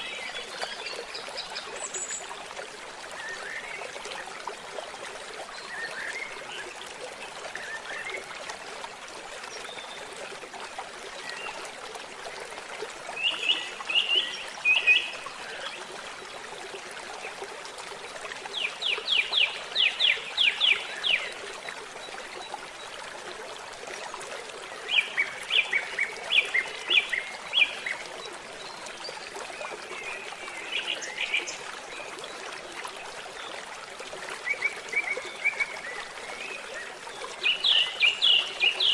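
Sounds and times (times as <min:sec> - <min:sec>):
forest stream trickling: 0:00.0 - 0:38.9.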